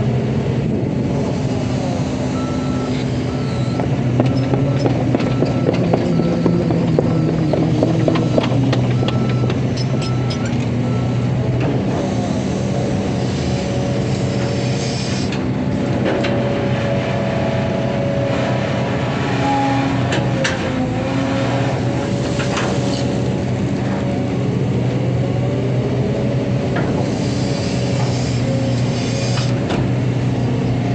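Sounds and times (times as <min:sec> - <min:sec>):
diesel engine running: 0:00.0 - 0:30.9
hydraulic whine: 0:01.2 - 0:24.1, 0:26.6 - 0:30.9.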